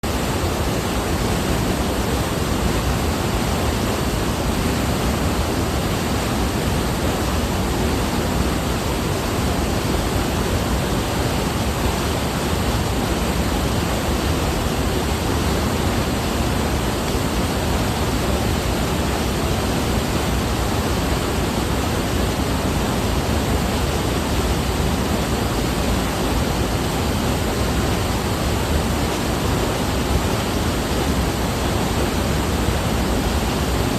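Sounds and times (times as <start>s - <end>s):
rush of falling water: 0.0s - 33.9s.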